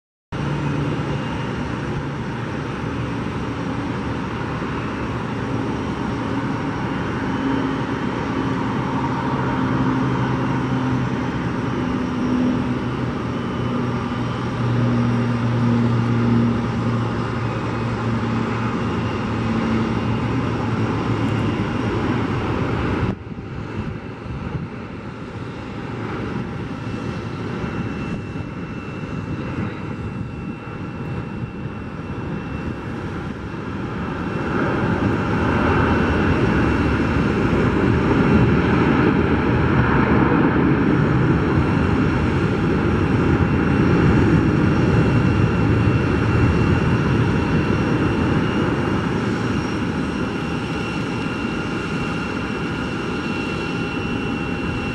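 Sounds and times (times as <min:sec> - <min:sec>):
jet engines on approach: 0:00.3 - 0:54.9.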